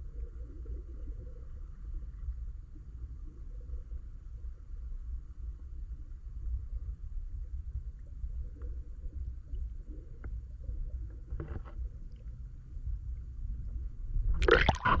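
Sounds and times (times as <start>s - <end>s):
faint ticks and clicks: 0.0s - 15.0s
muffled underwater water rumble: 0.0s - 15.0s.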